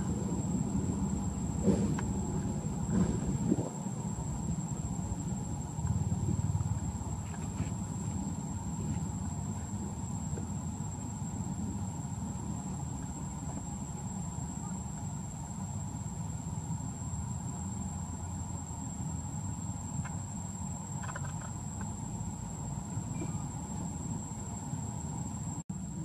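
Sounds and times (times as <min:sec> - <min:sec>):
high-pitched insect drone: 0:00.0 - 0:26.0
low background rumble: 0:00.0 - 0:26.0.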